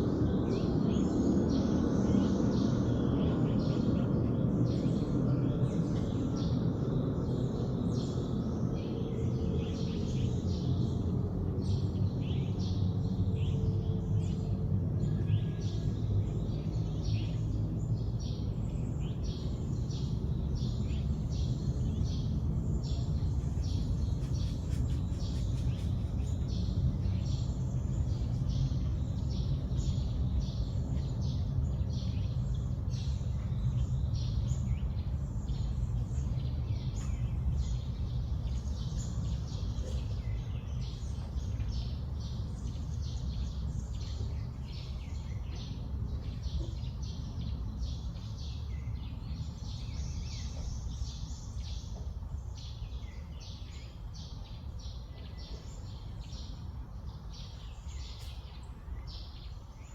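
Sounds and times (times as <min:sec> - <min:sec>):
low background rumble: 0:00.0 - 0:59.9
songbirds chirping: 0:00.0 - 0:59.9.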